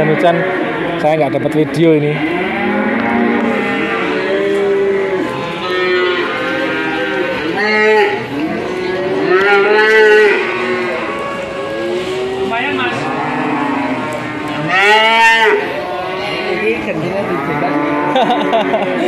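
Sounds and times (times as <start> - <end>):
cattle mooing: 0.0 - 19.0.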